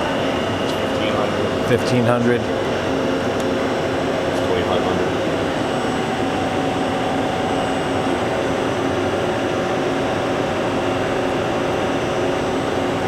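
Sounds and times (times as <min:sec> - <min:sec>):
lathe spindle whirring: 0:00.0 - 0:13.0.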